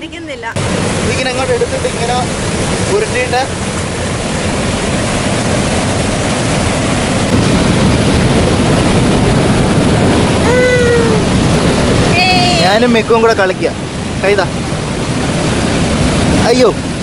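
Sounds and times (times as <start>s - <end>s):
waterfall rushing over rocks: 0.5s - 17.0s.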